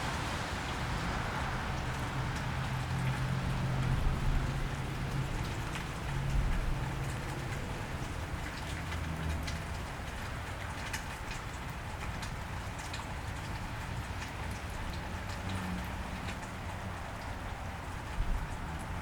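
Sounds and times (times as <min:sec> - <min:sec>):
rain on wet street: 0:00.0 - 0:19.0
raindrops ticking on surfaces: 0:00.0 - 0:19.0.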